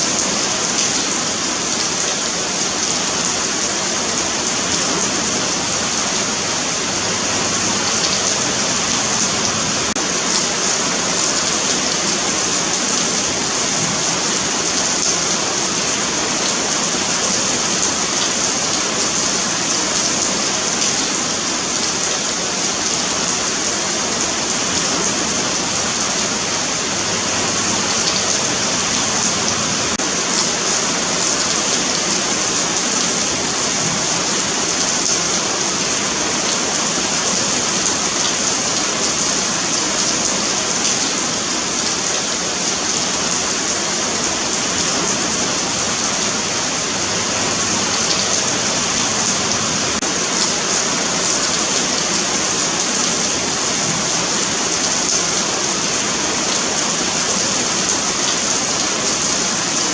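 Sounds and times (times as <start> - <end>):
rain on pavement: 0.0 - 59.9.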